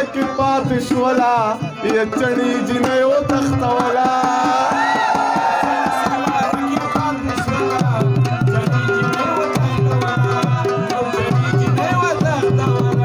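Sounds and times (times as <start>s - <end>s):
hand drum rhythm: 0.0s - 13.0s
person singing: 0.0s - 13.0s
rabab and harmonium melody: 0.0s - 13.0s.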